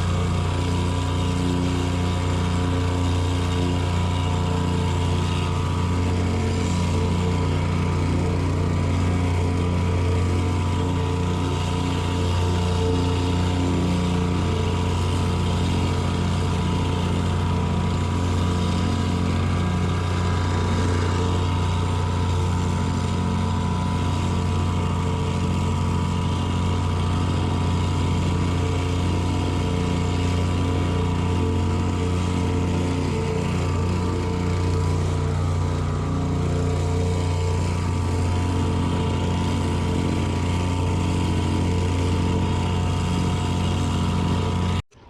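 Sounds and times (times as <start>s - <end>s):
engine running with low hum: 0.0s - 45.0s.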